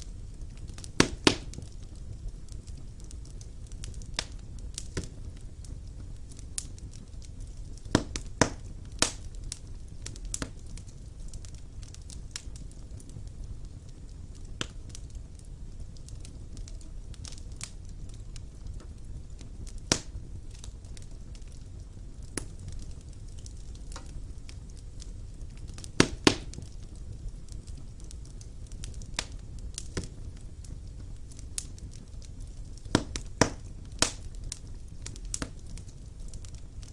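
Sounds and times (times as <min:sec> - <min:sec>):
fire crackling in fireplace: 0:00.0 - 0:36.9.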